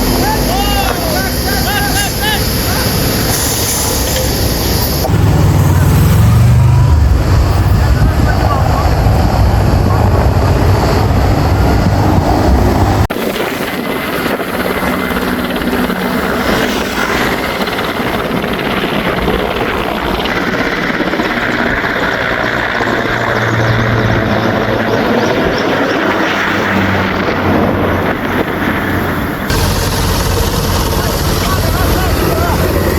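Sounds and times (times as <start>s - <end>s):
helicopter flying: 0.0s - 32.9s.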